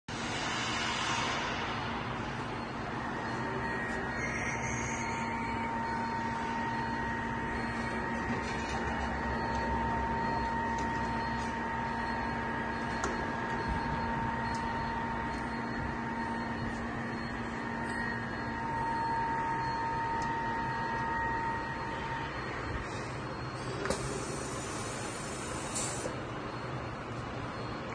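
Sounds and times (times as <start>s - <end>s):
machinery hum: 0.1s - 27.9s.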